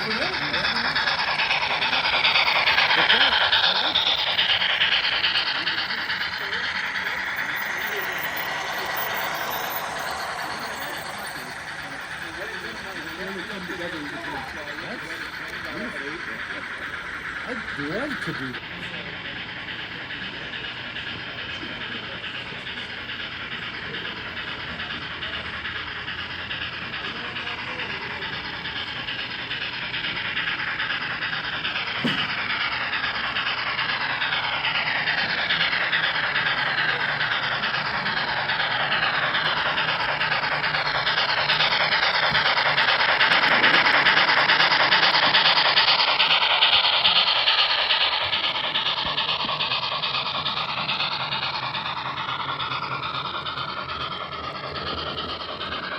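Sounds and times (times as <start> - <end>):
model train rumbling past: 0.0 - 55.9.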